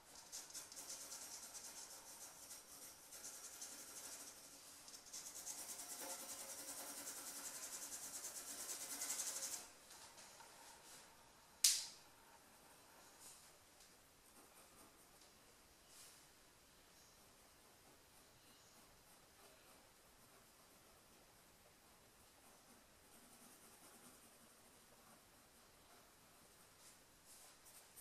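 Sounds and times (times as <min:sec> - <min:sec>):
pencil scratching on paper: 0:00.0 - 0:11.4, 0:14.2 - 0:15.2, 0:17.1 - 0:28.0.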